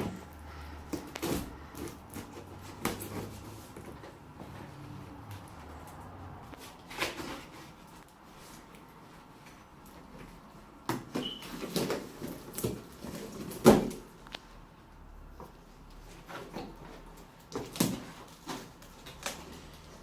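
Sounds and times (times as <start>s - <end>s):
cardboard rustling and scraping: 0.0s - 14.4s, 15.4s - 20.0s.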